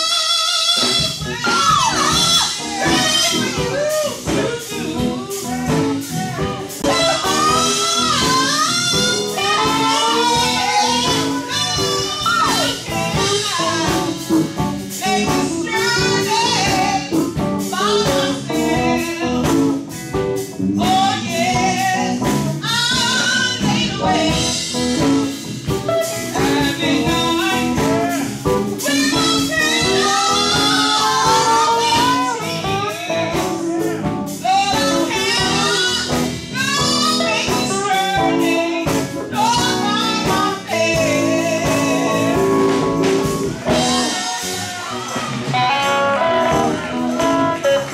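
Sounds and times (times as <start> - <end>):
woman singing: 0.0 - 25.3, 26.0 - 28.2, 28.8 - 44.2, 45.5 - 47.9
drums: 0.0 - 47.9
keyboard: 0.0 - 47.9
steel guitar: 0.7 - 47.9.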